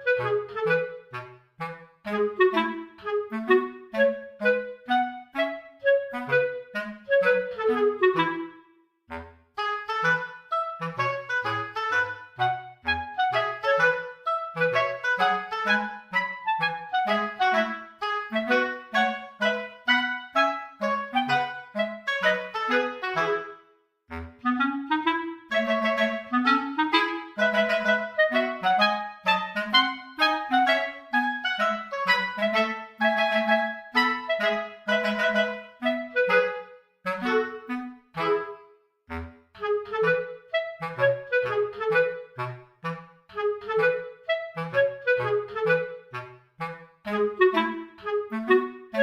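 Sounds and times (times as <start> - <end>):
bouncy woodwind melody: 0.0 - 49.0.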